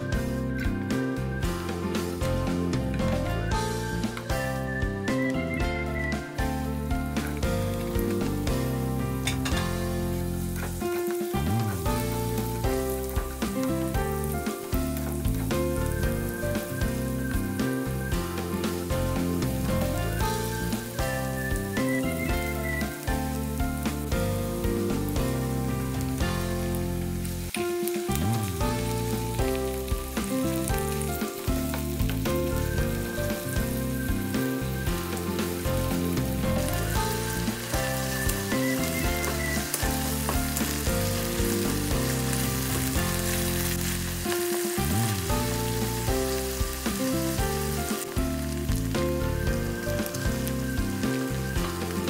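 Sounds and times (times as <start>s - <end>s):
background music with melody: 0.0s - 52.0s
food sizzling in a hot pan: 3.3s - 52.0s.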